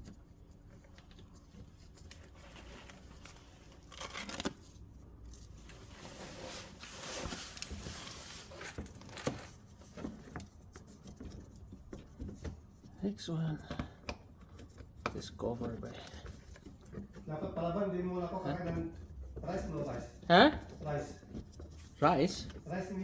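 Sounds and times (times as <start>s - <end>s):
rustling and crinkling: 0.0s - 23.0s.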